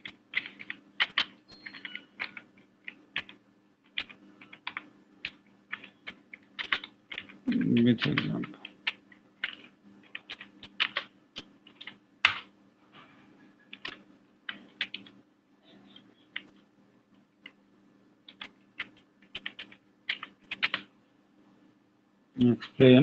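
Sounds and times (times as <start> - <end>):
keyboard typing: 0.0 - 12.5, 13.5 - 16.6, 17.4 - 17.6, 18.2 - 20.9
faint hum: 0.0 - 23.0.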